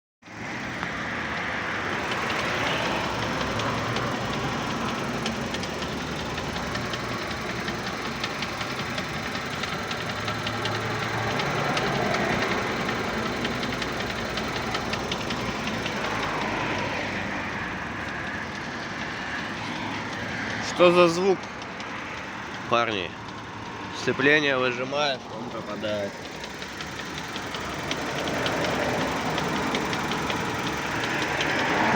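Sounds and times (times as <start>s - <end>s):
car engine running: 0.3s - 31.9s
gearbox knocking: 0.8s - 24.4s, 25.1s - 31.9s.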